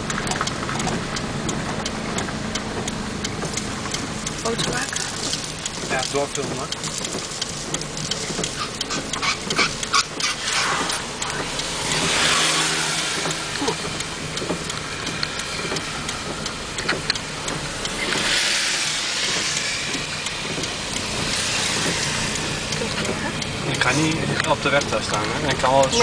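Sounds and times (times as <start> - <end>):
car engine humming: 0.0 - 26.0
sharp taps: 0.0 - 26.0
tyre hiss on wet road: 2.2 - 26.0.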